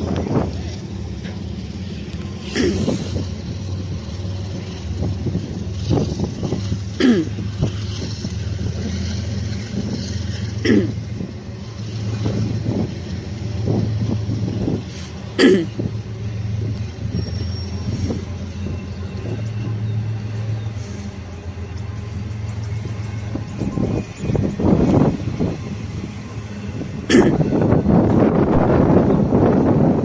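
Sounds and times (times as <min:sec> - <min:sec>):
freight train rumbling: 0:00.0 - 0:30.0.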